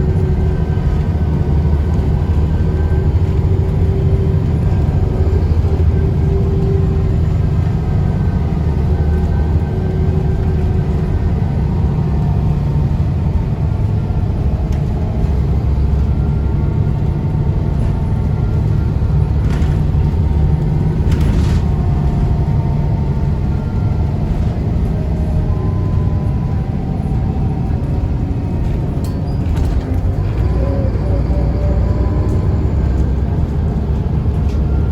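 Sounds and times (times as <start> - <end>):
diesel bus engine rumble: 0.0 - 34.9.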